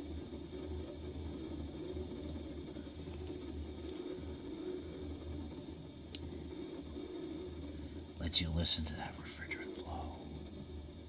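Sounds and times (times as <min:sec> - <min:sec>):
air conditioner humming: 0:01.1 - 0:11.0.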